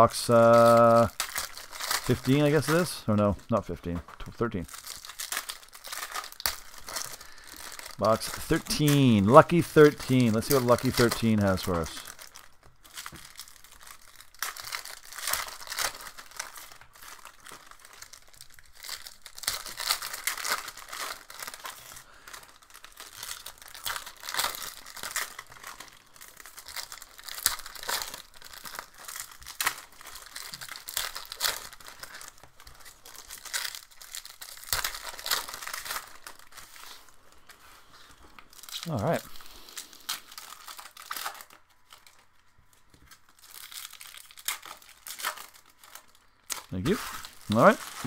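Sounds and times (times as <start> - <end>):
plastic wrapping tearing and crinkling: 0.0 - 48.0.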